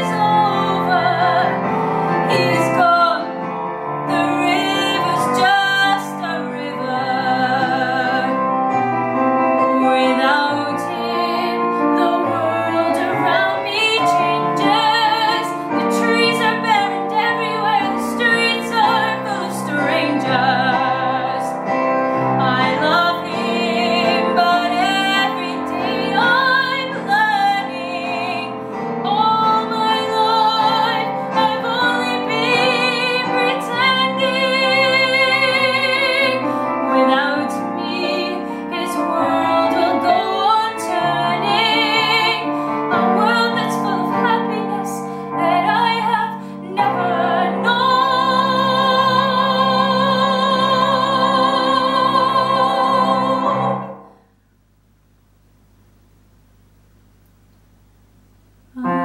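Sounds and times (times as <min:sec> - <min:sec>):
woman singing a ballad: 0:00.0 - 0:03.5, 0:04.1 - 0:08.5, 0:09.6 - 0:54.0, 0:58.8 - 0:59.0
piano accompaniment: 0:00.0 - 0:54.1.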